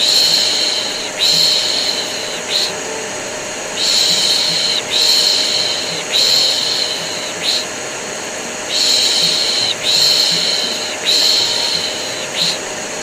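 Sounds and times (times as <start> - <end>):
vacuum cleaner droning: 0.0 - 13.0.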